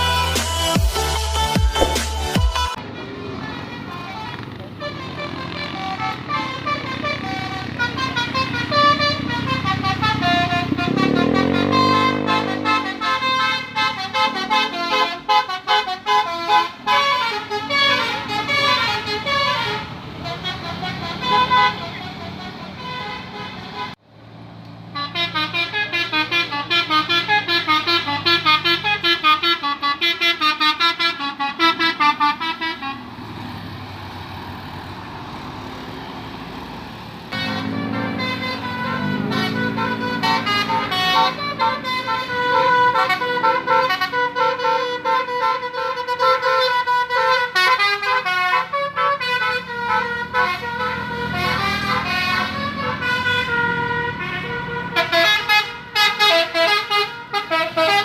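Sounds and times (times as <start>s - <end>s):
musical bus horn: 0.0s - 24.0s, 24.8s - 33.8s, 37.3s - 58.0s
bus engine: 0.0s - 58.0s.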